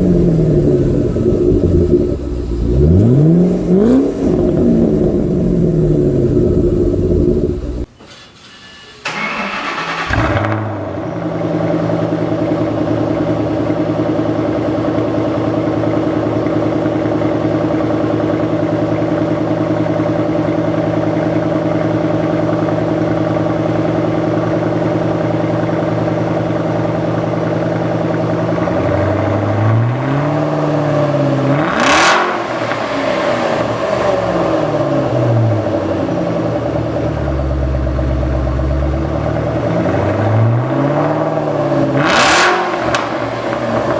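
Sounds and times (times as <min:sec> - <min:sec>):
car engine revving: 0:00.0 - 0:07.9, 0:09.1 - 0:43.9
car engine starting and idling: 0:00.0 - 0:43.9.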